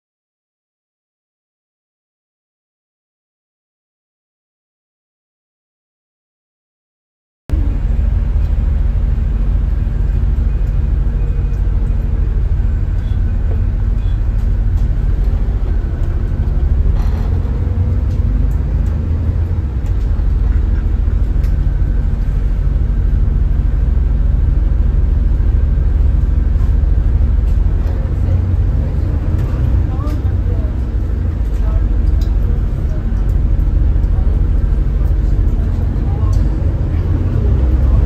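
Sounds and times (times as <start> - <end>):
bus diesel engine rumbling: 7.5 - 38.0.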